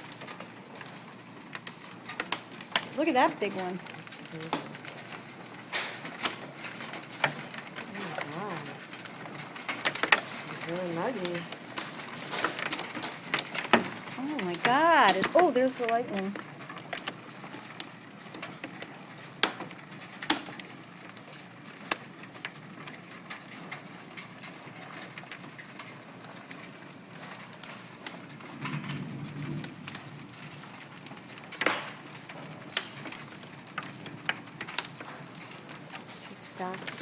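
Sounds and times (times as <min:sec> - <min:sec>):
hailstones cracking on hard surfaces: 0:00.0 - 0:37.0
hiss of falling hail and rain: 0:00.0 - 0:37.0.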